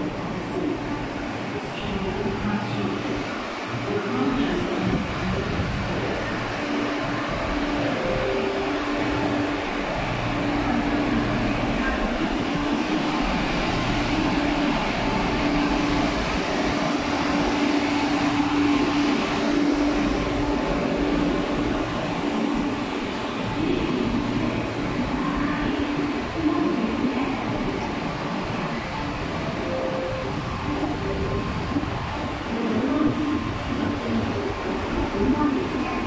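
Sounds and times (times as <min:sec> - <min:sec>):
train hum: 0:00.0 - 0:36.0
train interior rumble and hiss: 0:00.0 - 0:36.0.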